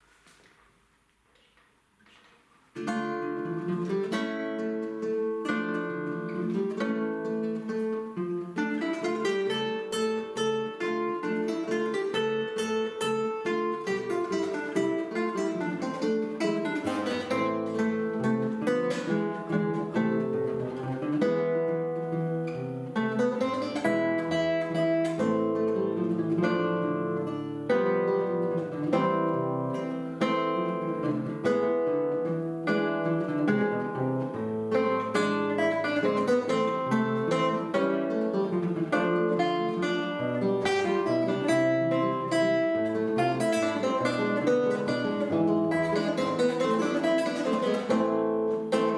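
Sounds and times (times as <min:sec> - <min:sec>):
classical guitar duet: 0:00.0 - 0:48.9.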